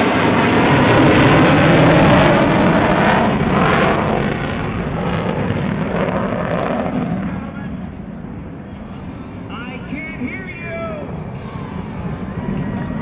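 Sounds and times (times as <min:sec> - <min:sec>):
jet aircraft roaring past: 0:00.0 - 0:13.0.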